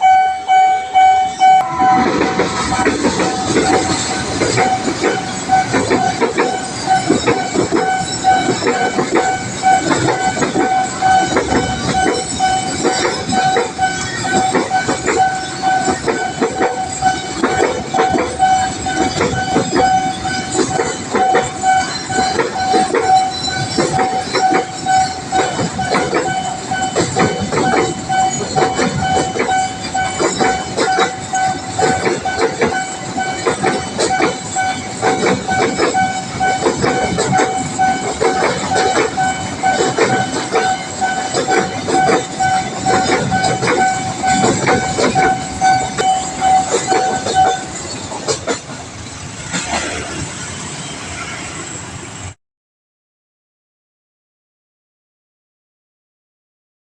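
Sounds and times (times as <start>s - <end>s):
level-crossing alarm tone: 0.0s - 48.7s
train wheels clattering: 1.8s - 52.4s.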